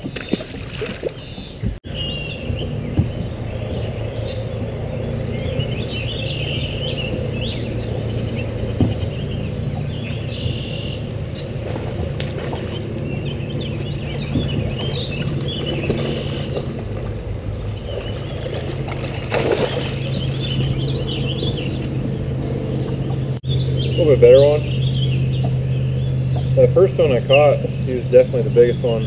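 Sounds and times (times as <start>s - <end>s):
birds chirping and singing: 0.0s - 29.0s
steady low hum: 1.8s - 29.0s.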